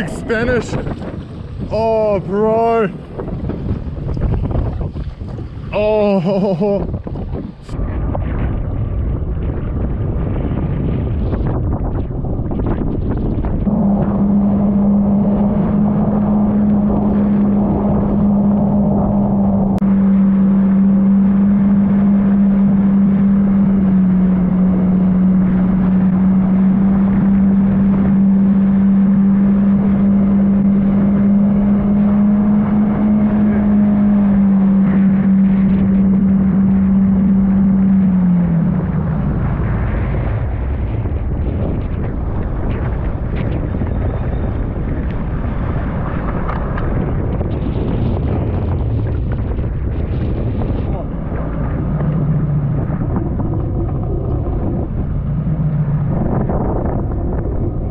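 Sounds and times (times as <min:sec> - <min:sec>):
jet ski engine droning: 0:00.0 - 0:57.9
wind and spray rushing: 0:00.0 - 0:57.9.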